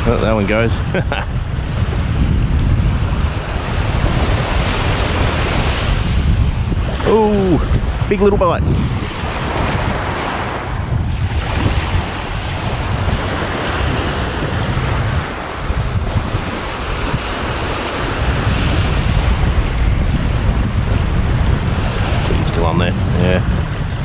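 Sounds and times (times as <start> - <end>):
small waves breaking on beach: 0.0 - 24.0
wind buffeting microphone: 0.0 - 24.0.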